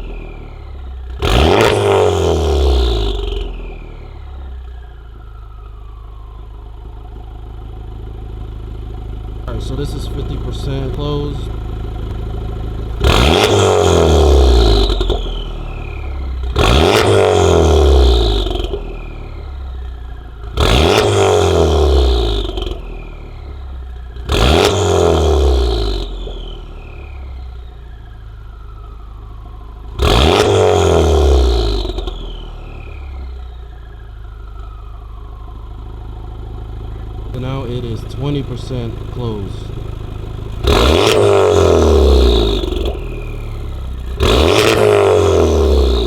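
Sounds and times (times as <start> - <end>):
car engine revving: 0.0 - 4.5, 7.1 - 46.0.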